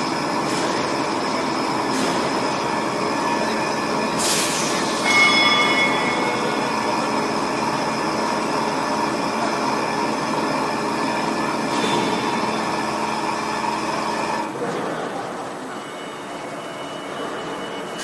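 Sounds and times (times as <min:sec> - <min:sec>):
machining center running with whine: 0:00.0 - 0:18.0.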